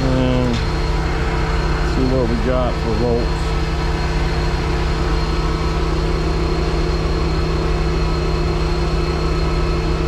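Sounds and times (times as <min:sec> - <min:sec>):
large engine idling: 0:00.0 - 0:10.0.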